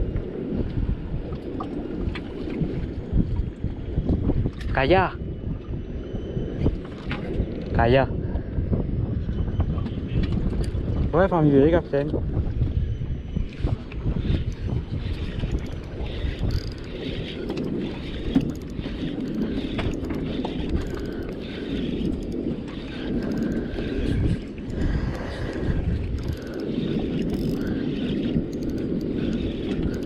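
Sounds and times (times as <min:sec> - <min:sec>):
water noise: 0:00.0 - 0:30.0
wind rushing over microphone: 0:00.0 - 0:30.0.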